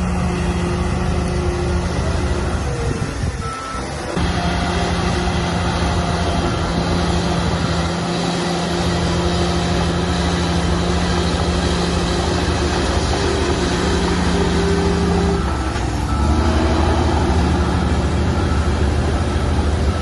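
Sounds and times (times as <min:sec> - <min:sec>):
heavy diesel machinery running: 0:00.0 - 0:20.0
lower louder engine: 0:00.0 - 0:20.0.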